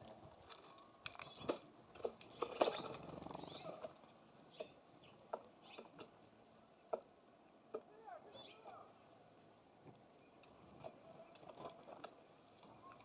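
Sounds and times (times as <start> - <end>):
birds pecking and tapping: 0.0 - 8.8, 9.8 - 13.0
rustle of birds: 0.0 - 13.0.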